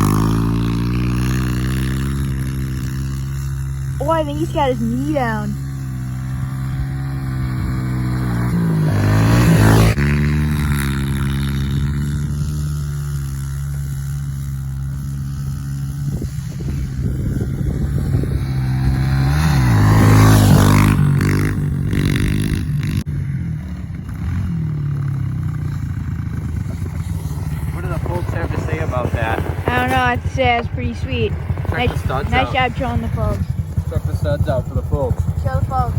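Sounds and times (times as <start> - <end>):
pit bike engine revving: 0.0 - 35.9.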